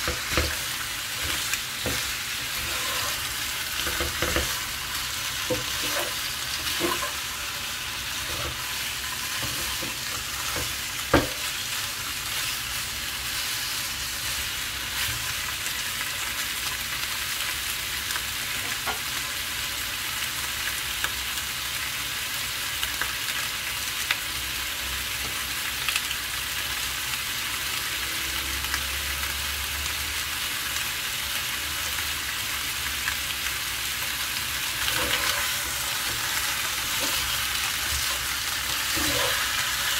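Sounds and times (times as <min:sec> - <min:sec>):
chicken sizzling in frying pan: 0:00.0 - 0:39.9.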